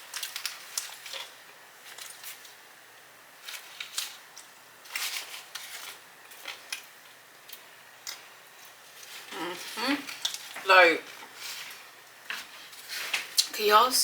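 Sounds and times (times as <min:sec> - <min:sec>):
chewing with crunches: 0:00.0 - 0:02.6, 0:03.4 - 0:13.5.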